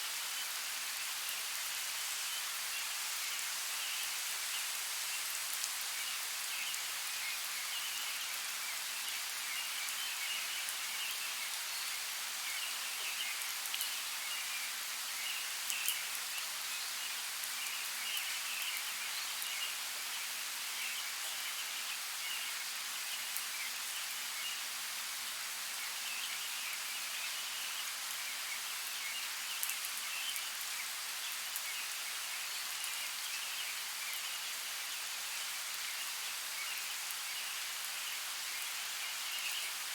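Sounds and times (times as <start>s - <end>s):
steady light rain: 0.0s - 39.9s.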